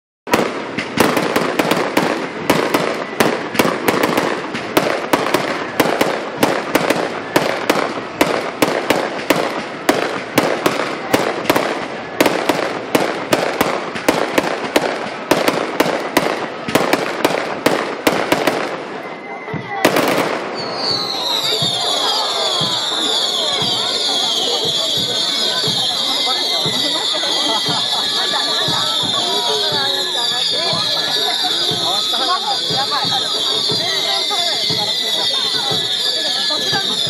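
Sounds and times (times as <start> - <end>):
fireworks bangs and crackles: 0.3 - 37.0.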